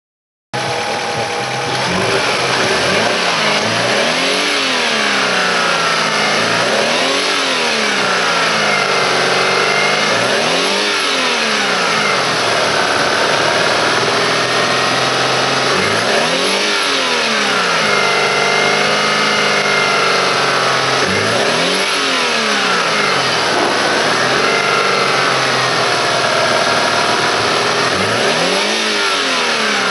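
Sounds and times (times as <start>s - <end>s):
car engine revving and idling: 0.6s - 29.9s.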